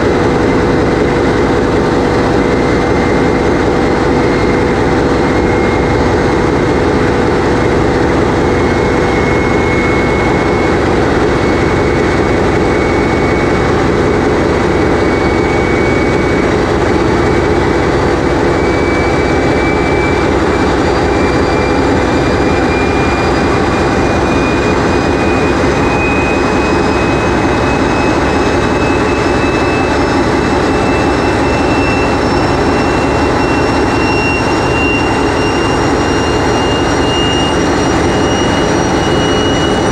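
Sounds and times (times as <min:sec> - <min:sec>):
diesel engine drone: 0:00.0 - 0:39.9
thin high whine: 0:00.0 - 0:39.9.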